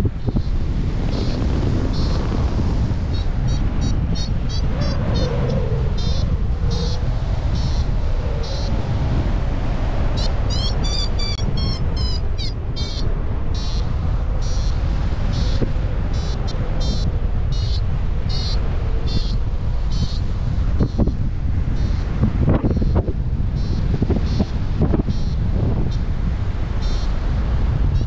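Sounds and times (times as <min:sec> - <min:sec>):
wind noise on microphone: 0:00.0 - 0:28.0.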